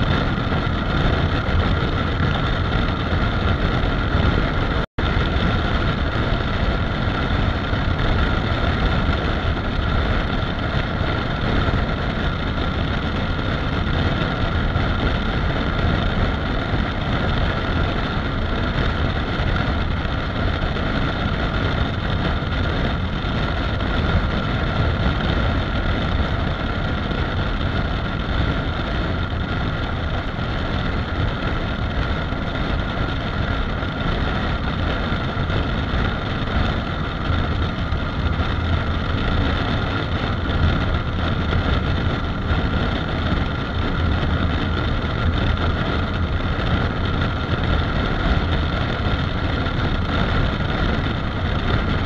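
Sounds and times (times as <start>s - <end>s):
motorcycle engine cruising: 0.0s - 52.0s
wind rush on microphone: 0.0s - 52.0s.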